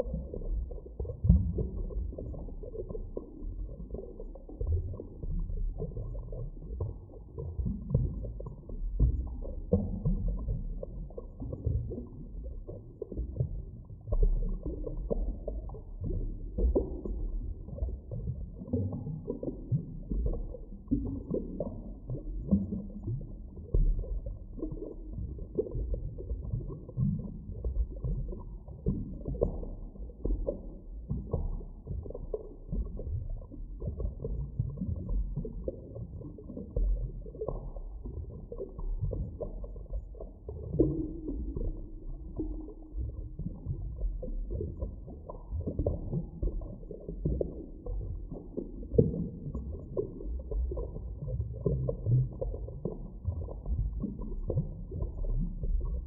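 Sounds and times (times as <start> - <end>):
underwater low rumble: 0.0 - 56.0.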